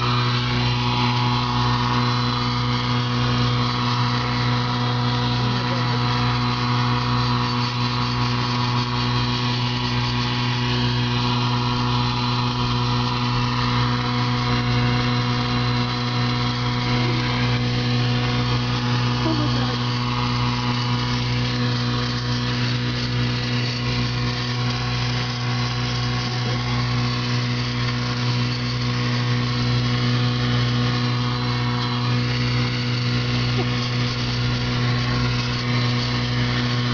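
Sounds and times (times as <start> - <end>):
low regular pulsing: 0.0 - 36.9.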